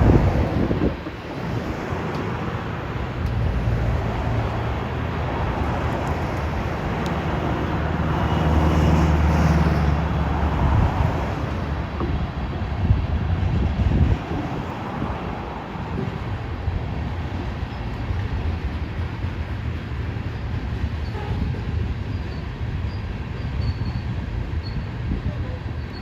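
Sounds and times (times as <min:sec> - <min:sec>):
diesel locomotive engine droning: 0:00.0 - 0:26.0.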